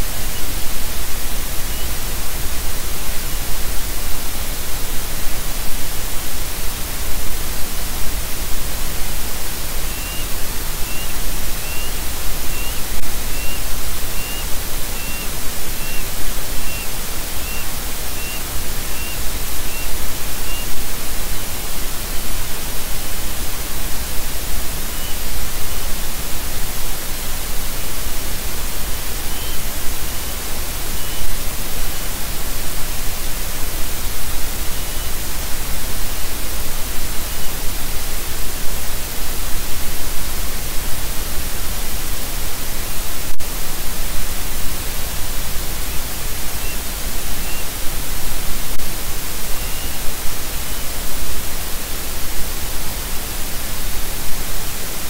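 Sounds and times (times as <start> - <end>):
loud static hiss: 0.0 - 55.0.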